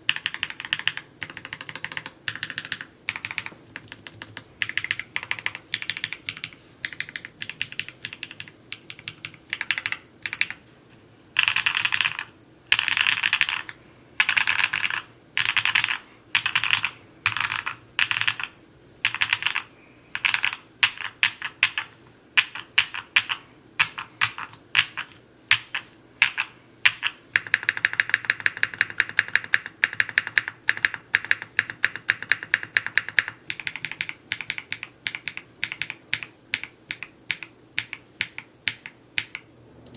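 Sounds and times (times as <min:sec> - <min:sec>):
mechanical keyboard typing: 0:00.0 - 0:10.6, 0:11.4 - 0:39.9.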